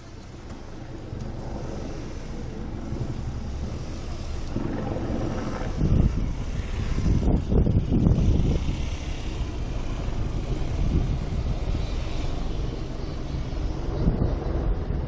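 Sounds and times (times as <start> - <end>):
low buffeting: 0.0 - 15.0.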